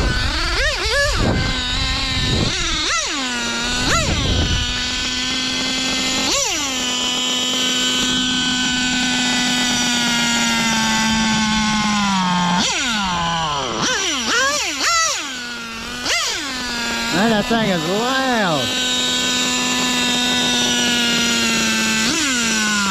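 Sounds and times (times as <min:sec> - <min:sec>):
nitro engine revving: 0:00.0 - 0:22.9.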